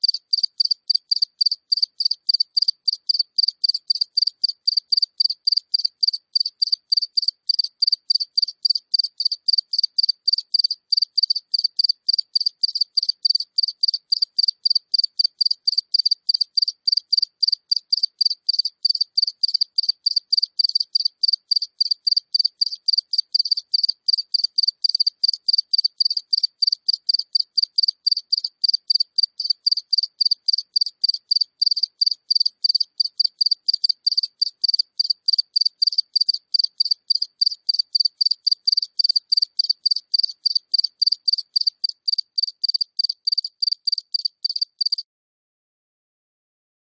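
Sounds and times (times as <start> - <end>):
cricket chirping: 0.0 - 45.0.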